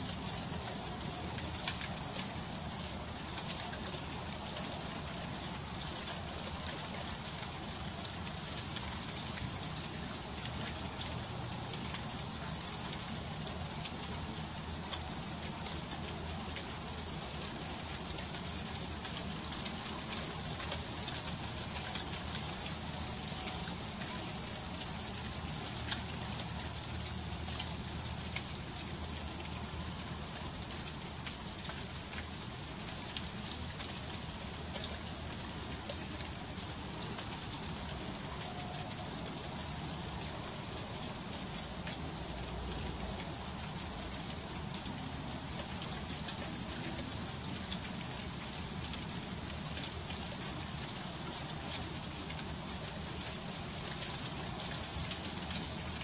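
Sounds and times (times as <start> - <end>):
freezing rain on icy surfaces: 0.0 - 56.0.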